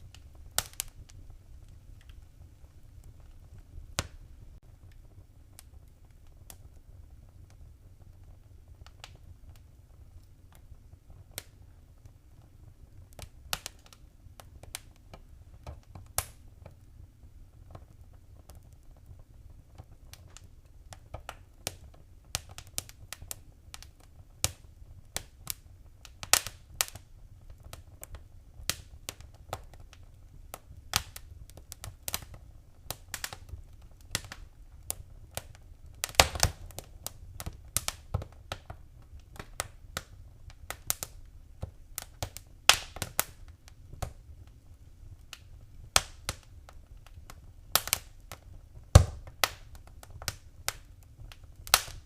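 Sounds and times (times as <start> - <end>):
fire crackling and popping: 0.0 - 52.0
low rumble of fire: 0.0 - 52.0.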